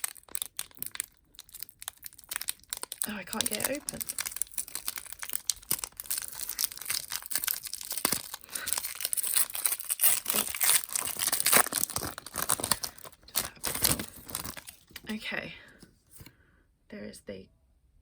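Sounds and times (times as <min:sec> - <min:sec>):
foil wrapper crinkling and tearing: 0:00.0 - 0:15.2.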